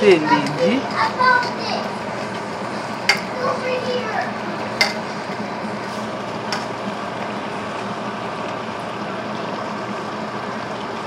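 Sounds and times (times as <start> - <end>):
food simmering in a pan: 0.0 - 11.0.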